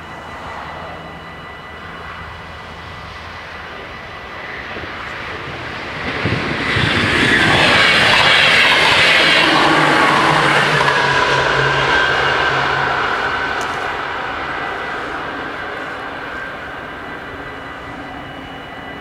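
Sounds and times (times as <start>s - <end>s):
level crossing bells ringing: 0.0s - 19.0s
train passing rush: 0.0s - 19.0s.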